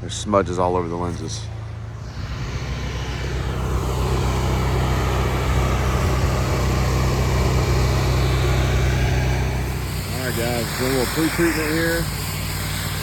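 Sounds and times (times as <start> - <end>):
pressure washer engine running: 1.9 - 13.0
water spraying hiss: 2.0 - 13.0.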